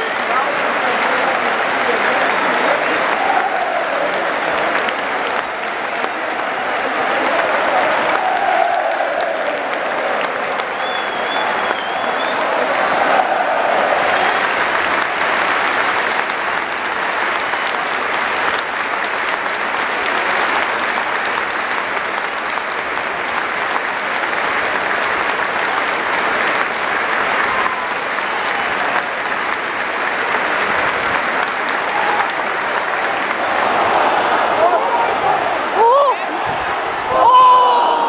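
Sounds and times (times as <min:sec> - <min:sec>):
stadium crowd applauding: 0:00.0 - 0:38.0.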